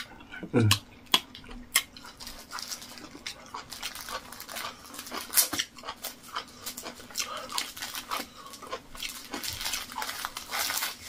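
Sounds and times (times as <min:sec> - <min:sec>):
chewing and breathing: 0:01.0 - 0:11.0
plastic packet crinkling: 0:02.1 - 0:11.0.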